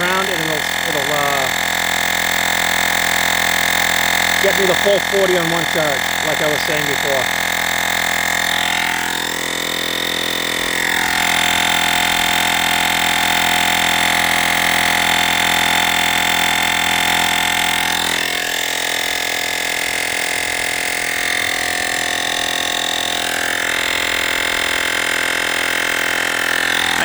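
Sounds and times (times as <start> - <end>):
air compressor pumping tire: 0.0 - 27.0.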